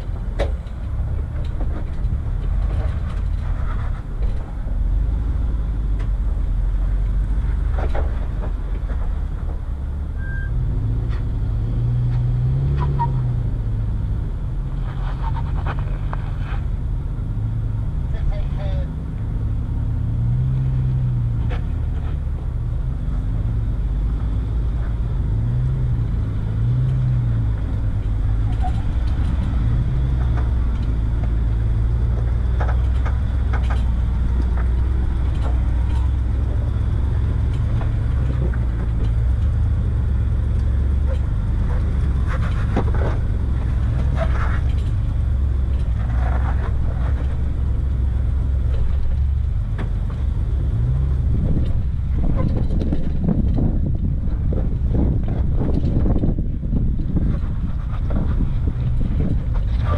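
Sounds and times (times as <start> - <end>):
off-road vehicle engine: 0.0 - 59.9.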